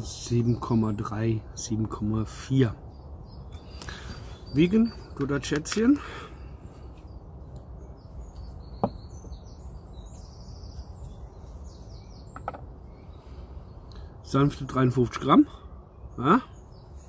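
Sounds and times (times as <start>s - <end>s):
faint bird chirps: 2.3s - 17.0s.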